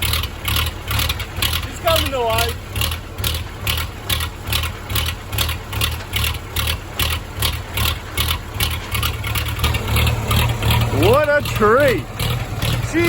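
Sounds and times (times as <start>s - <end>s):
bulldozer diesel engine idling: 0.0s - 13.0s.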